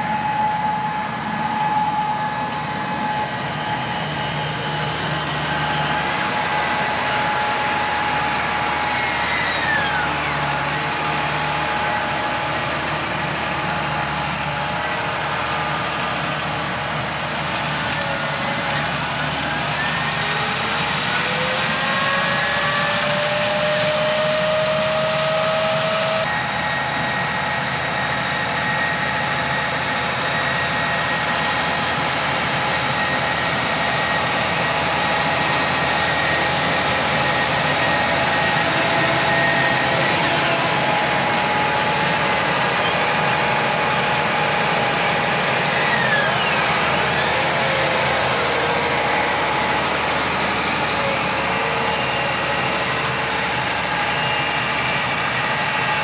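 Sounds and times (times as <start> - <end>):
tractor engine hum with whine: 0.0 - 56.0.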